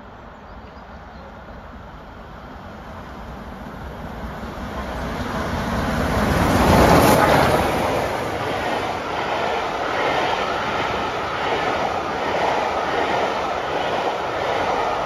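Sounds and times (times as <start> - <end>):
steam locomotive passing: 0.0 - 15.0.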